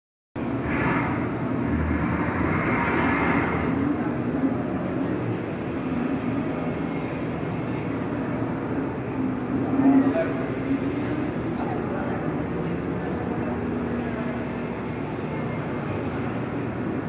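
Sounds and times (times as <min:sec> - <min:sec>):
exhibition hall hum and rumble: 0:00.4 - 0:17.0.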